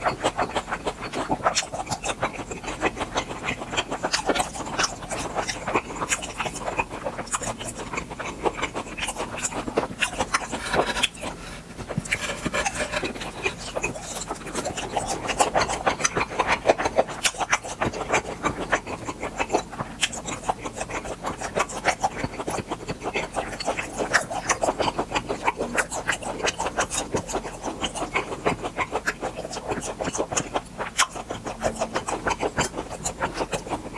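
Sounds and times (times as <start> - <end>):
wet chewing: 0.0 - 33.9.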